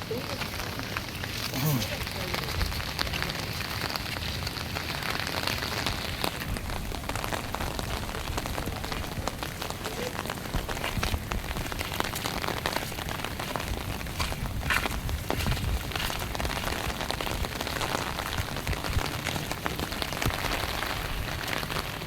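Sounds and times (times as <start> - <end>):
heavy rain hissing: 0.0 - 22.0
strong wind rumbling: 2.0 - 22.0.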